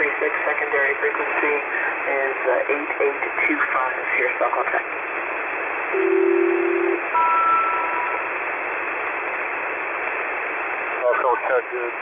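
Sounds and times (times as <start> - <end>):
radio static hiss: 0.0 - 7.2, 7.8 - 12.0.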